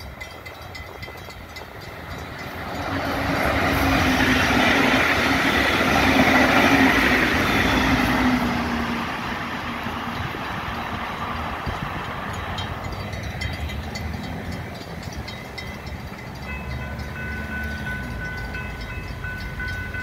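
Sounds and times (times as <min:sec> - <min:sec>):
train hum: 0:00.0 - 0:20.0
train wheels rumbling on rail: 0:00.0 - 0:20.0.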